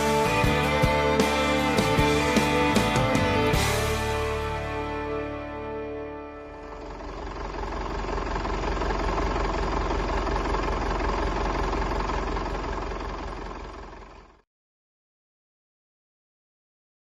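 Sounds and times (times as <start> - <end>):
diesel engine running: 0.0 - 14.4.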